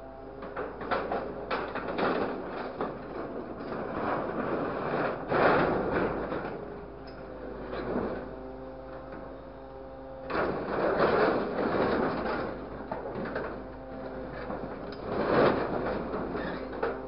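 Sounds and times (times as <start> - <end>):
crane engine and hydraulics humming: 0.0 - 17.0
scrap metal rattling and scraping: 0.3 - 9.4, 10.2 - 17.0.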